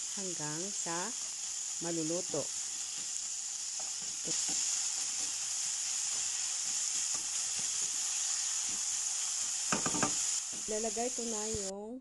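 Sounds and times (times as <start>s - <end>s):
meat and onions sizzling in pan: 0.0s - 11.7s.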